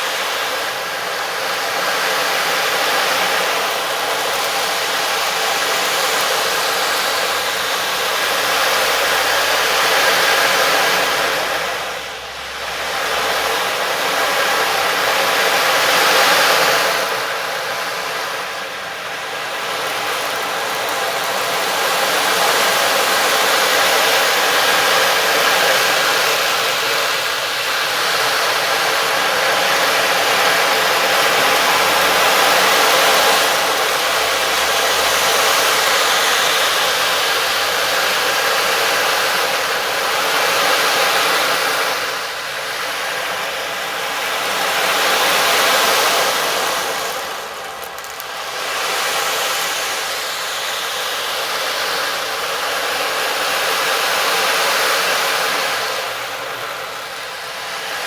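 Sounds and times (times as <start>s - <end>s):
loud rushing hiss: 0.0s - 58.0s.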